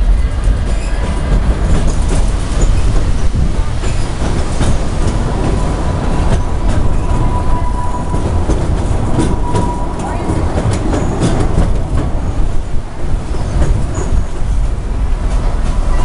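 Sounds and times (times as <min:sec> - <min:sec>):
rail clicks: 0:00.0 - 0:16.0
train cars rumbling and rattling: 0:00.0 - 0:16.0.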